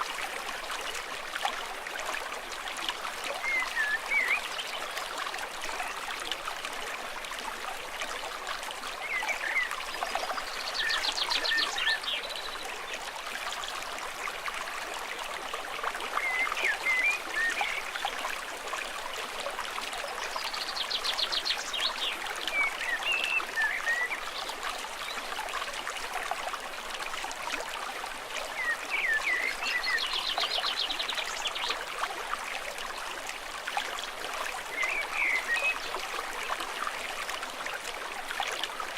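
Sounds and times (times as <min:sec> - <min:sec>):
stream water over rocks: 0:00.0 - 0:38.9.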